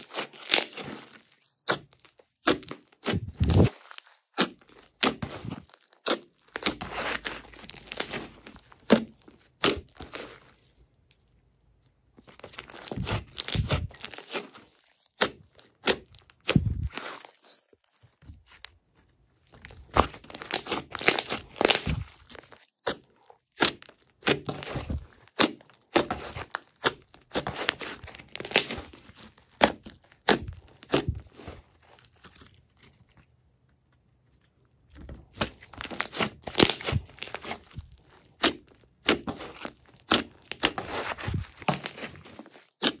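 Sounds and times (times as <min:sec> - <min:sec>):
slime squishing and crackling: 0:00.0 - 0:43.0.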